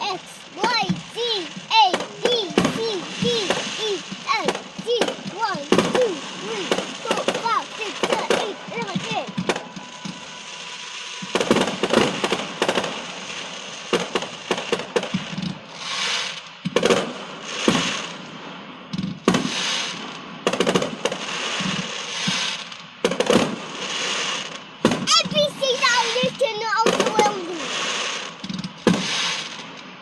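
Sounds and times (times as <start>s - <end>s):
fireworks bangs and crackles: 0.0s - 30.0s
fireworks hiss: 0.0s - 30.0s.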